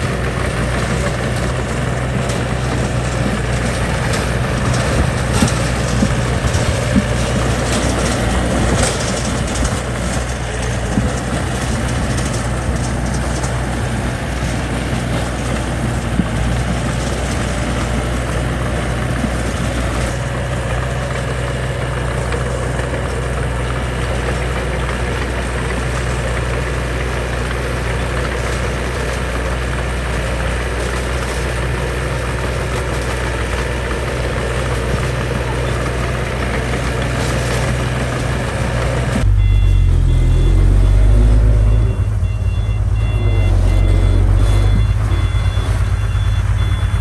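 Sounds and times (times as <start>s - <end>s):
diesel engine running steadily: 0.0s - 47.0s.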